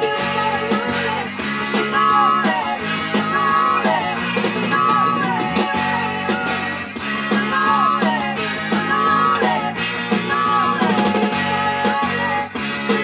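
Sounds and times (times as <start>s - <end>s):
rock and roll record playing: 0.0s - 13.0s.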